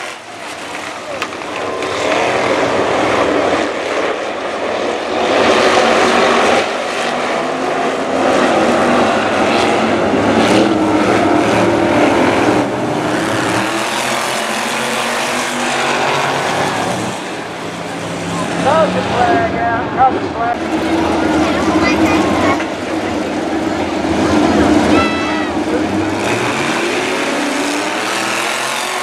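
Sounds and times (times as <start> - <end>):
racing car engines roaring: 0.0 - 29.0.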